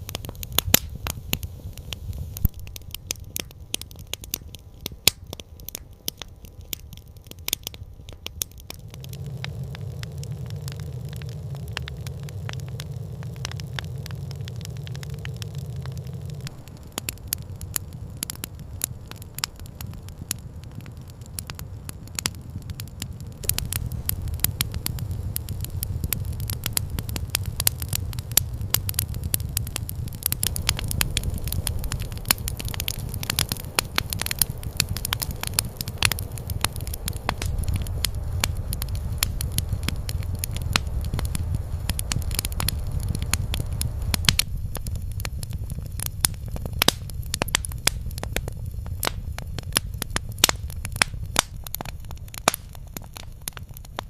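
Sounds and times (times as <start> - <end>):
campfire crackling: 0.0 - 54.0
low rumble: 8.5 - 53.3.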